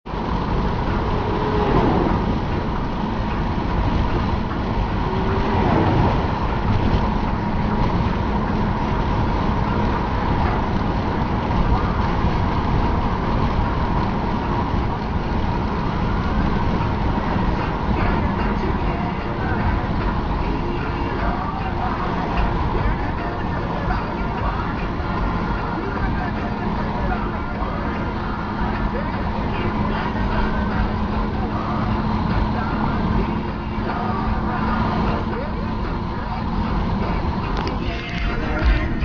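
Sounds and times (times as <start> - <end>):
car road noise: 0.0 - 39.0
wind rush through open car window: 0.0 - 39.0.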